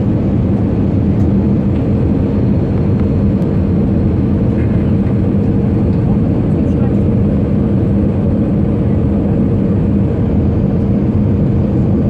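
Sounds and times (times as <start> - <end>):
jet engines droning: 0.0 - 12.0.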